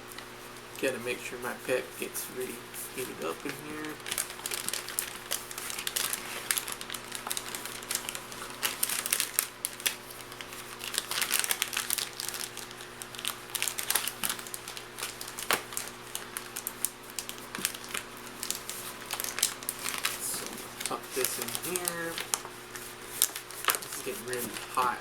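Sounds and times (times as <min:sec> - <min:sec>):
faint steady hum: 0:00.0 - 0:25.0
plastic pouch crinkling: 0:02.4 - 0:25.0.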